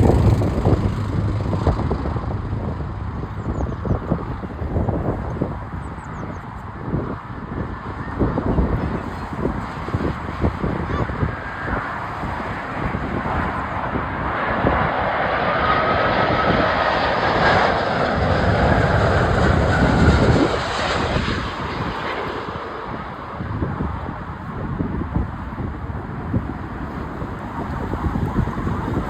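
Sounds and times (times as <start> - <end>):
jet engines rumbling: 0.0 - 29.0
wind buffeting microphone: 0.0 - 29.0.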